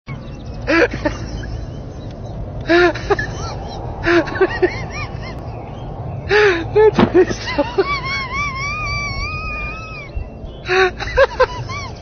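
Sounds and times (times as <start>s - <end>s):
low background rumble: 0.1s - 12.0s.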